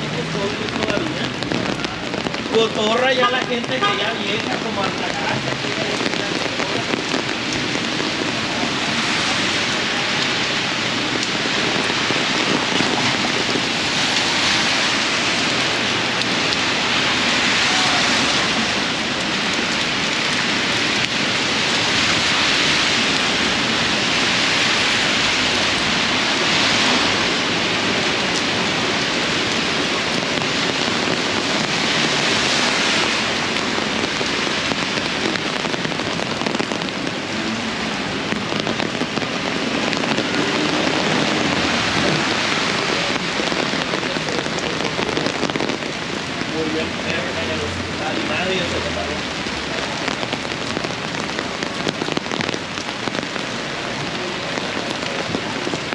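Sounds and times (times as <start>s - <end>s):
heavy rain on umbrella: 0.0s - 55.9s
rain on wet pavement: 0.0s - 55.9s.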